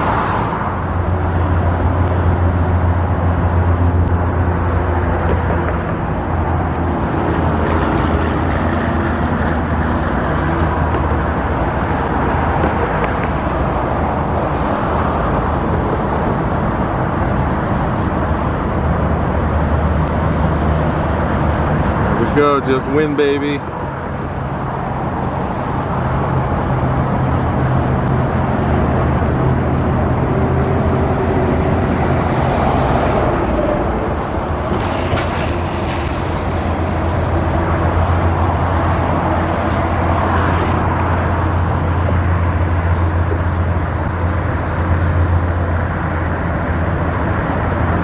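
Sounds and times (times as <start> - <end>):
engine low drone: 0.0 - 48.0
road traffic: 0.0 - 48.0.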